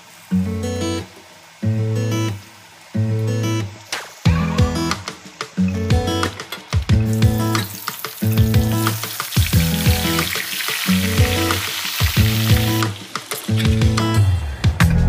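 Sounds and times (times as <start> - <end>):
hot oil sizzling: 0.0 - 14.8
guitar music: 0.3 - 15.0.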